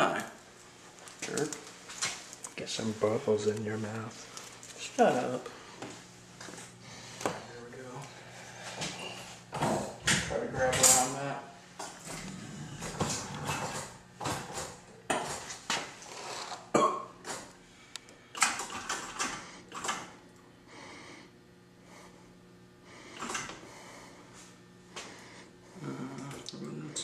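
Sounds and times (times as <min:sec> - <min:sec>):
low steady hum: 0:00.0 - 0:18.4, 0:19.3 - 0:27.0.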